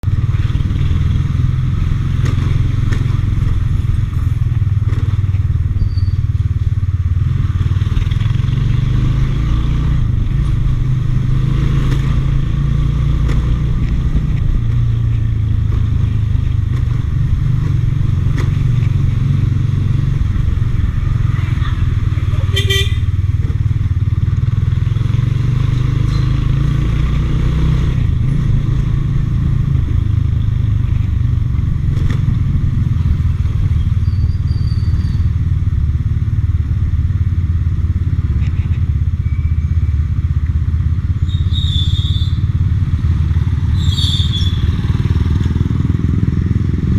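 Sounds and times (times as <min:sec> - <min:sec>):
motorbike engine and road noise: 0:00.0 - 0:46.9.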